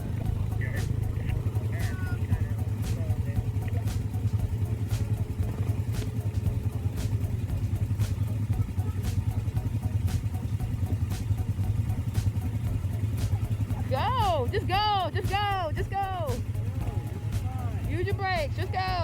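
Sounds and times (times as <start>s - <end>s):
faint ticks: 0.0s - 18.8s
atv engine humming: 0.0s - 19.0s.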